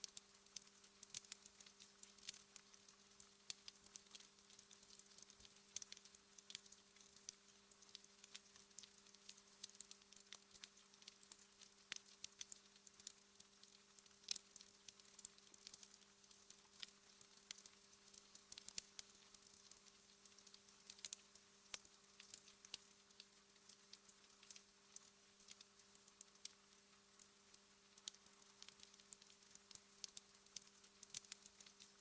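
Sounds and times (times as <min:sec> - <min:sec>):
faint steady hum: 0:00.0 - 0:32.0
wood fire crackling: 0:00.0 - 0:32.0.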